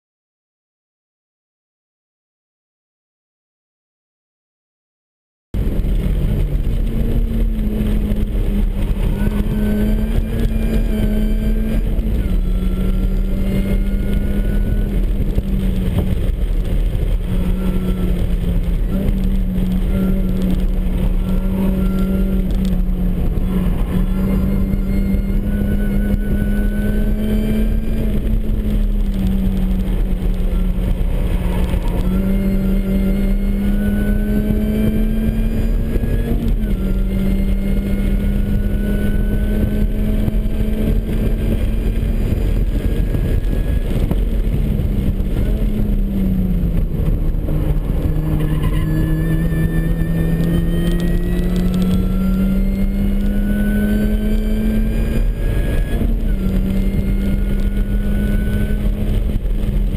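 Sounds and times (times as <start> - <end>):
car engine at full throttle: 5.6 - 59.9
road and wind rumble: 5.6 - 59.9
supercharger whine: 5.6 - 59.9.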